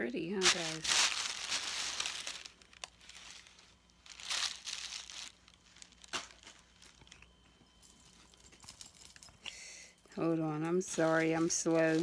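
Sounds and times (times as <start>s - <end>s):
gift wrapping crinkling: 0.4s - 9.2s, 10.8s - 12.0s.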